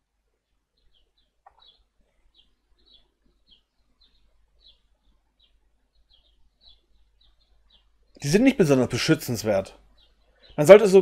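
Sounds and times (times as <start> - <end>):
small bird chirping: 0.1 - 11.0.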